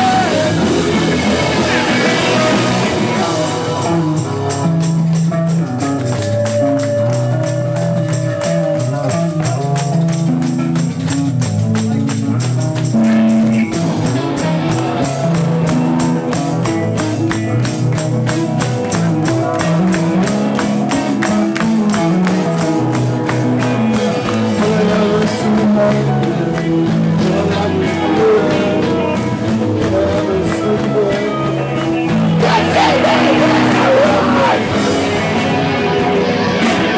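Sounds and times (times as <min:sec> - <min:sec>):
live rock band playing: 0:00.0 - 0:36.9.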